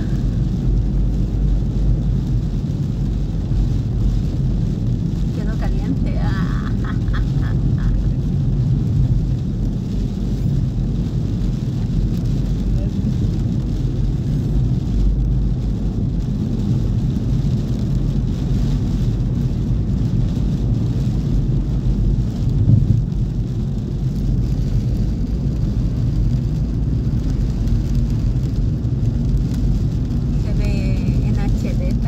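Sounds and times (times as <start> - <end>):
car driving on wet road: 0.0 - 32.0.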